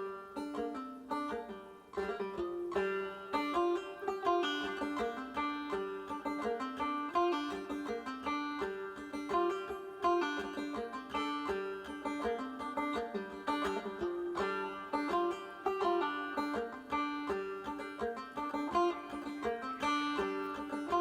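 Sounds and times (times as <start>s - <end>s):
bluegrass banjo tune: 0.0s - 21.0s.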